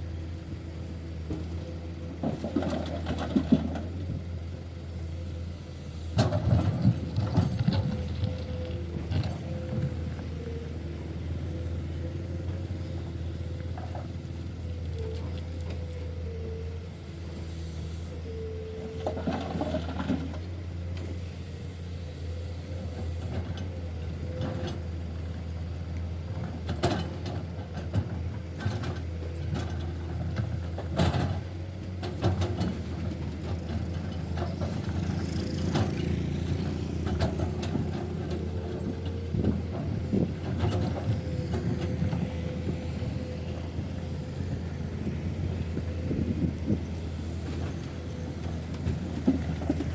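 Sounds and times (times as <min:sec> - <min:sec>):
diesel machinery running: 0:00.0 - 0:49.9.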